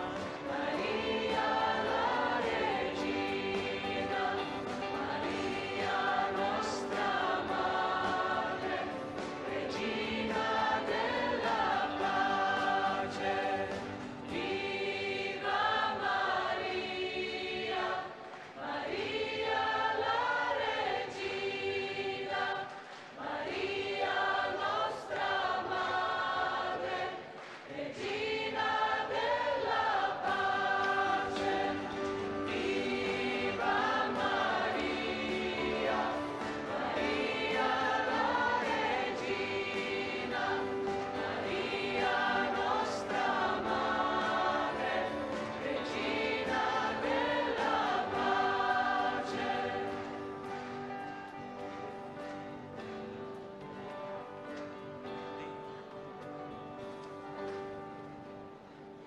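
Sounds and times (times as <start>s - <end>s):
choir singing a hymn: 0.0s - 51.5s.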